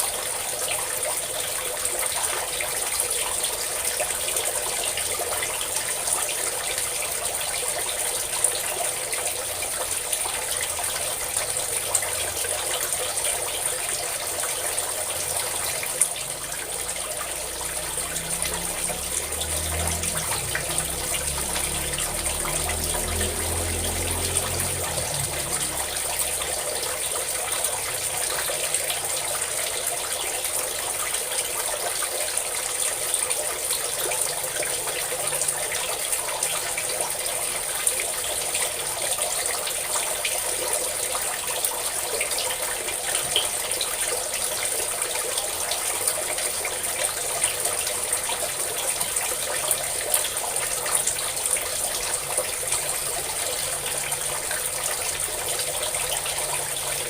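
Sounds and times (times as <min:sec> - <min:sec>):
water pouring and splashing: 0:00.0 - 0:57.0.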